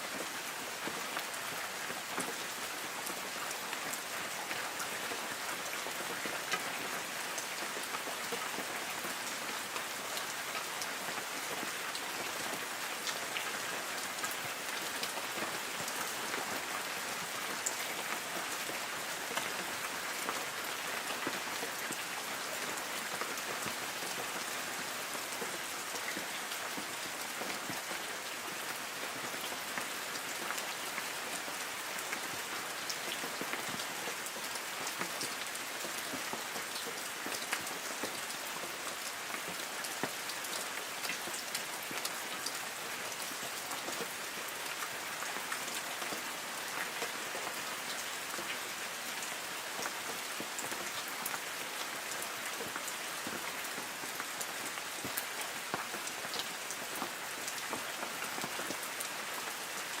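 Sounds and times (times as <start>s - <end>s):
light rain pattering on leaves: 0.0s - 60.0s.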